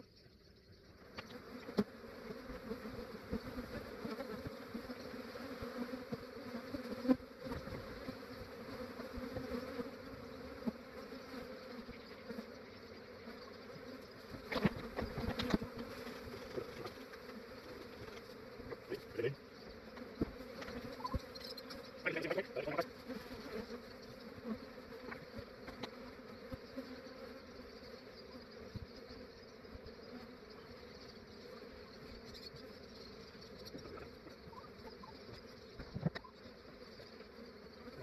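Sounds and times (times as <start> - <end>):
honey bees buzzing: 0.6 - 38.0.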